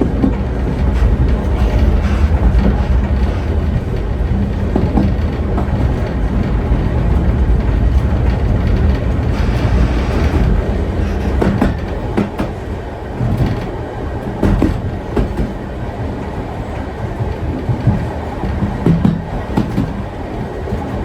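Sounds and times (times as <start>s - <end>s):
train rumbling on track: 0.0s - 21.0s
wheels clicking over rail joints: 0.0s - 21.0s.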